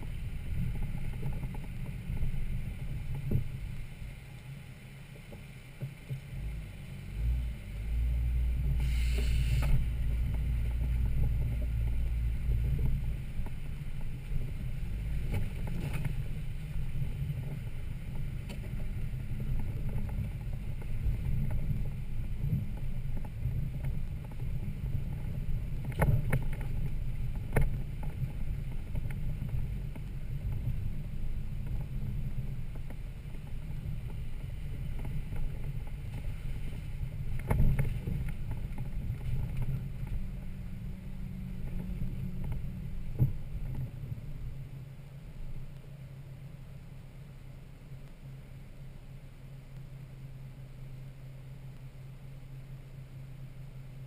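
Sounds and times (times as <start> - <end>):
engine low rumble: 0.0 - 54.0.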